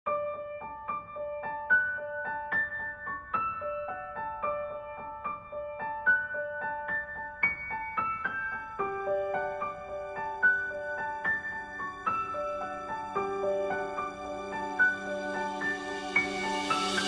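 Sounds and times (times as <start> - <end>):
gentle piano melody: 0.1 - 17.0.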